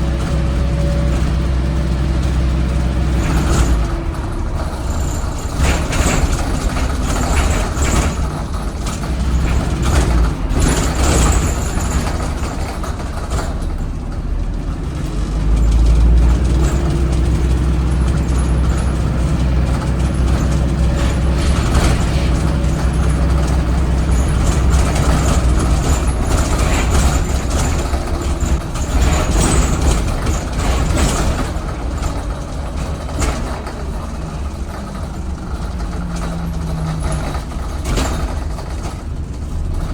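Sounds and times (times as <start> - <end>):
bus diesel engine droning: 0.0 - 39.9
knocks and rattles: 0.1 - 39.9.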